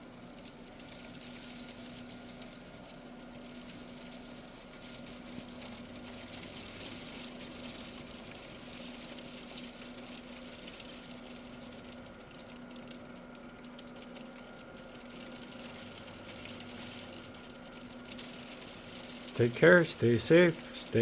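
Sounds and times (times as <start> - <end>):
freezing rain hissing and ticking: 0.0 - 21.0.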